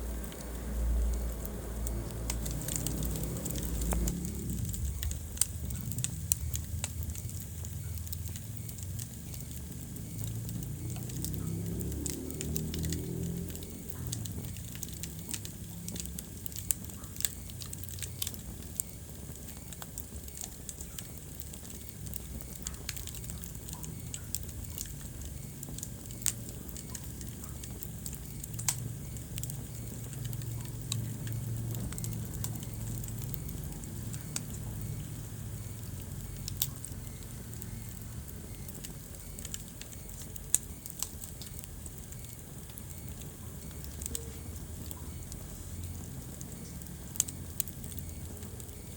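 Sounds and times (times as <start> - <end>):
fire crackling and popping: 0.0 - 48.9
low rumble of flames: 0.0 - 48.9.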